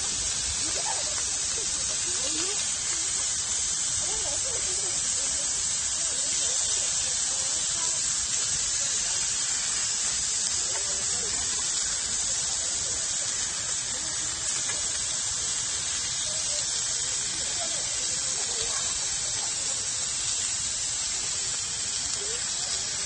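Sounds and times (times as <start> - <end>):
meat sizzling on grill plate: 0.0 - 23.0.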